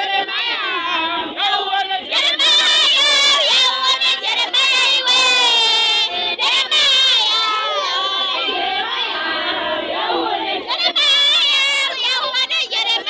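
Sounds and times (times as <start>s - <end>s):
group of people singing: 0.0s - 13.0s.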